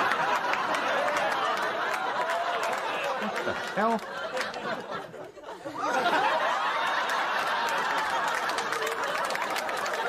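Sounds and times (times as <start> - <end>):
audience laughing: 0.0 - 10.0.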